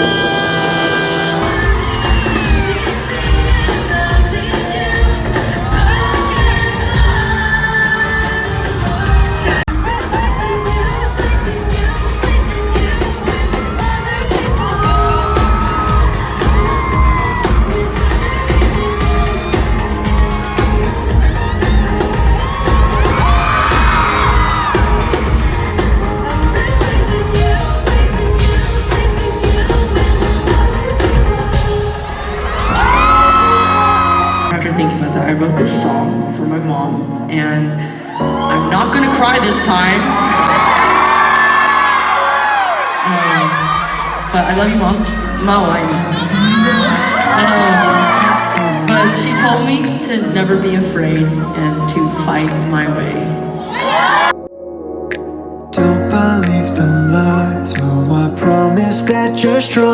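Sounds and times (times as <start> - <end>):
crowd whooping and yelling: 0.0 - 35.0, 38.1 - 50.0, 51.1 - 54.4
pop song with singer: 0.0 - 59.9.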